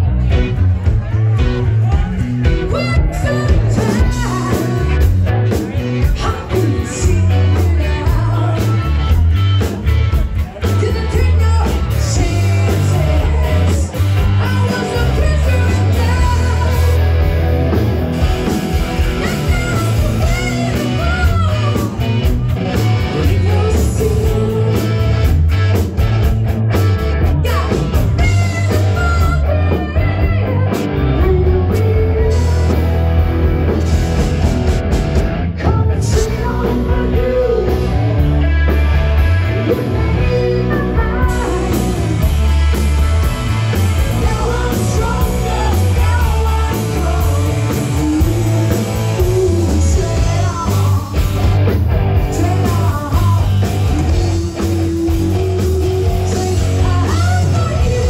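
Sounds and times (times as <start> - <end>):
live rock band playing: 0.0 - 58.0
woman singing lead: 1.9 - 9.7, 10.4 - 17.8, 18.4 - 25.3, 27.2 - 33.3, 35.5 - 58.0.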